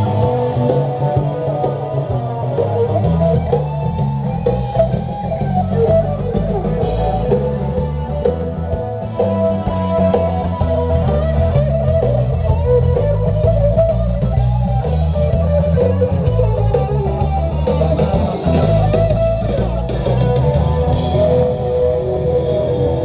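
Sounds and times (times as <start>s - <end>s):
bass guitar: 0.0s - 23.0s
electric guitar: 0.0s - 23.0s
live rock band playing: 0.0s - 23.0s.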